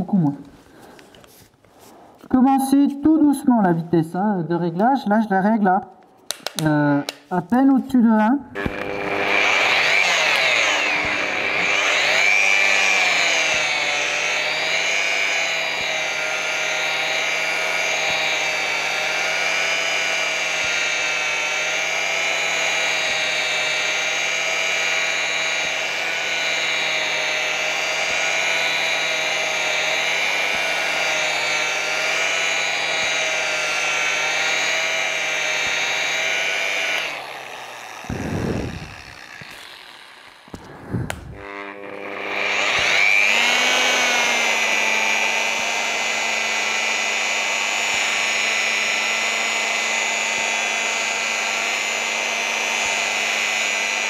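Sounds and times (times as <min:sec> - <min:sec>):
electric polisher motor whine: 0:08.5 - 0:54.0.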